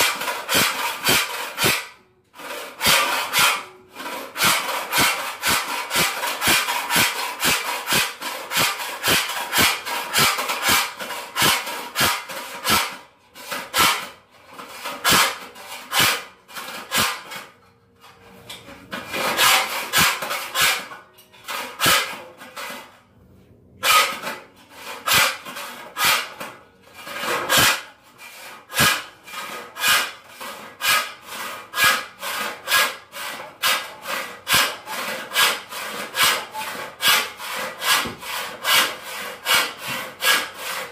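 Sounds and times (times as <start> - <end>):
handsaw cutting wood: 0.0 - 17.6, 18.9 - 22.9, 23.8 - 40.9.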